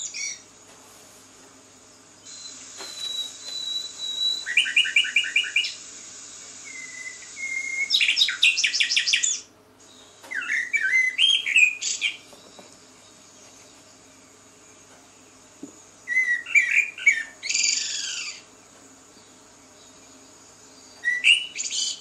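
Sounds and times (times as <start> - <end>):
songbirds singing: 0.0 - 0.6, 1.7 - 5.9, 6.5 - 22.0
steady high hiss: 0.0 - 22.0.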